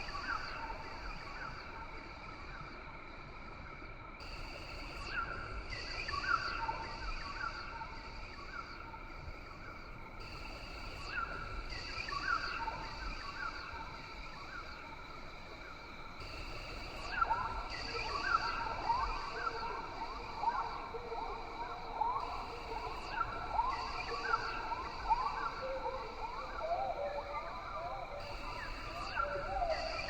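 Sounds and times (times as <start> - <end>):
insect chorus: 0.0 - 30.0.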